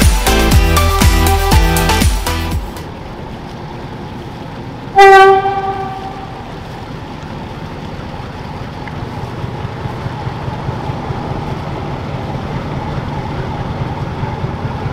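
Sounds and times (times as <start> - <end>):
boat engines rumbling: 0.0 - 14.9.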